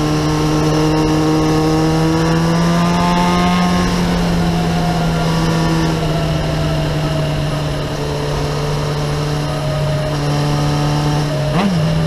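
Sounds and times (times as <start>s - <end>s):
motorcycle engine running: 0.0s - 12.0s
wind rush over microphone: 0.0s - 12.0s.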